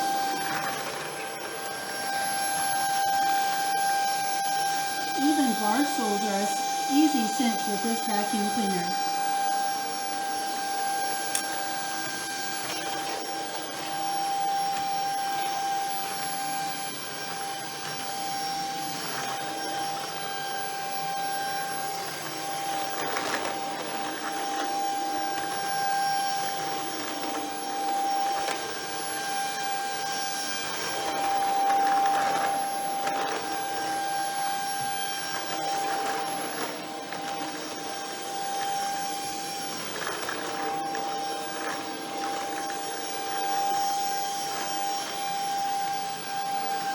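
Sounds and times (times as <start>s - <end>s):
stick vacuum whining: 0.0s - 46.9s.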